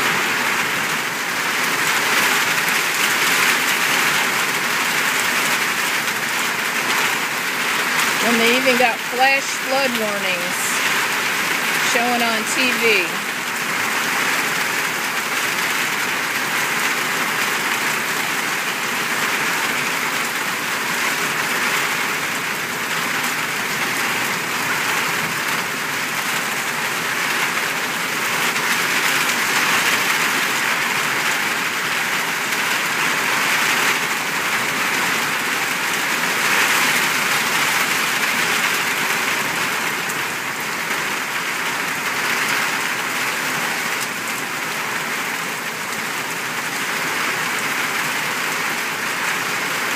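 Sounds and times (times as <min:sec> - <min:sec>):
heavy rain on pavement: 0:00.0 - 0:49.9.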